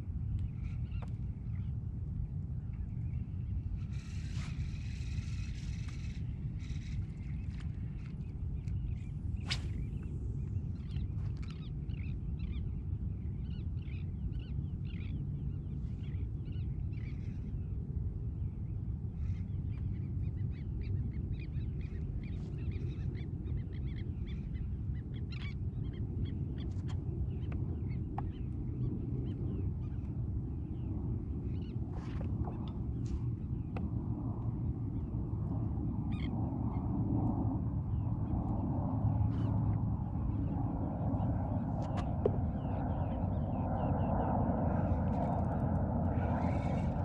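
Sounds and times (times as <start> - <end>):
low steady rumble: 0.0 - 47.0.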